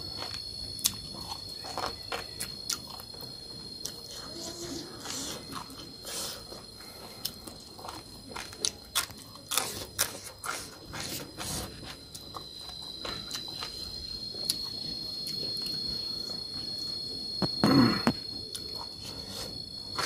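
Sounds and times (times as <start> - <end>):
insect trilling: 0.0 - 20.0.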